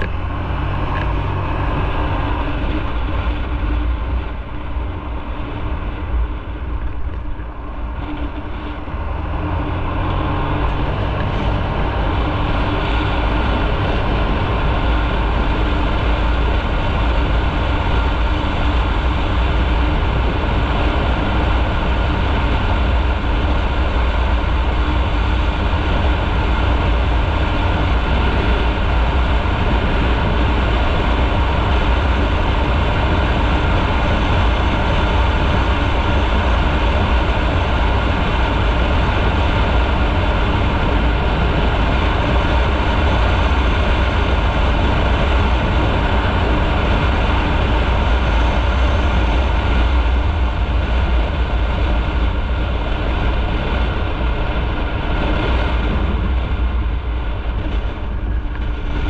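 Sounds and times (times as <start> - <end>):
motorcycle engine drone: 0.0 - 59.0
road noise: 0.0 - 59.0
wind noise: 0.0 - 59.0.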